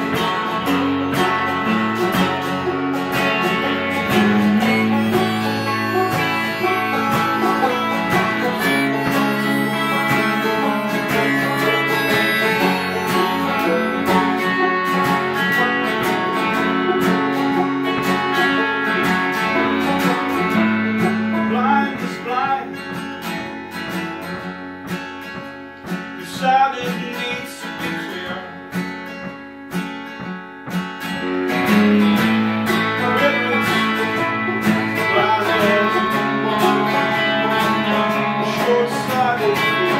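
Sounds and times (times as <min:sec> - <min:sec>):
acoustic guitars and banjo playing: 0:00.0 - 0:39.9.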